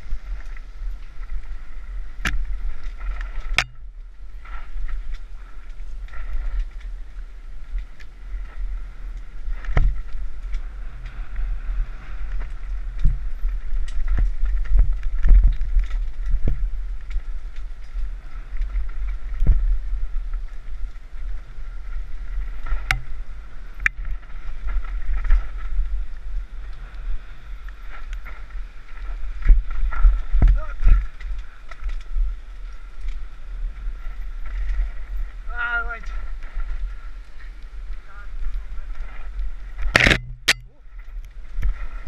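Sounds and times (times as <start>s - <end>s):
bike knocking and rattling: 0.0s - 42.0s
wind rumble on microphone: 0.0s - 42.0s.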